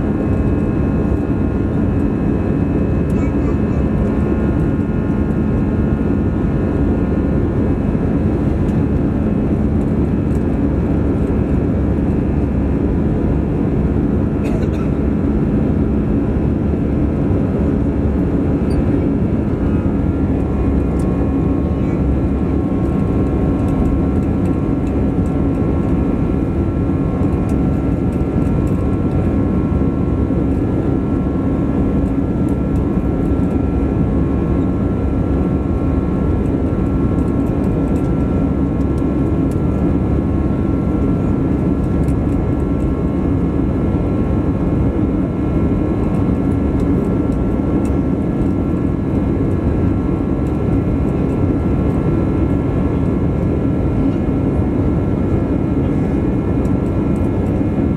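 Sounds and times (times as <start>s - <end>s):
jet engine cabin rumble: 0.0s - 57.9s.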